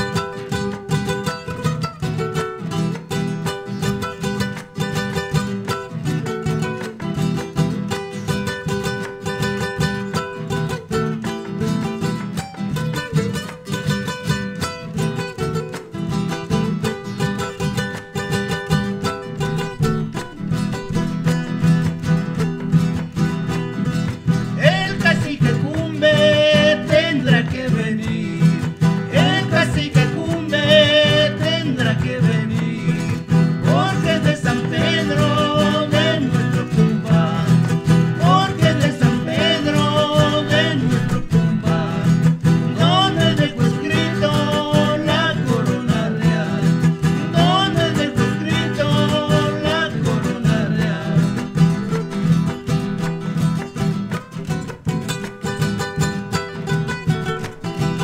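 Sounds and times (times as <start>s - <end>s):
strummed guitars: 0.0s - 58.0s.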